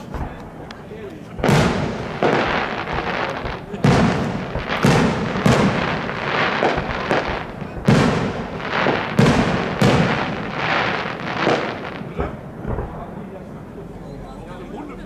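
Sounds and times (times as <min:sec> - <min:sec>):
firework shells bursting: 0:00.0 - 0:13.3
crackling echoing tail: 0:00.0 - 0:14.5.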